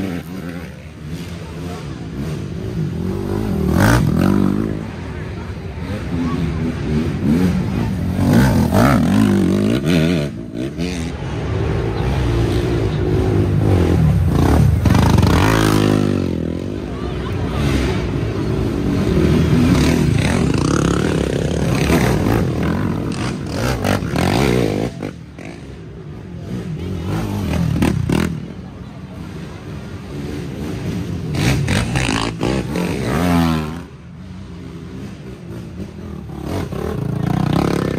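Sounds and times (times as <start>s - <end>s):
quad engines revving: 0.0s - 37.9s.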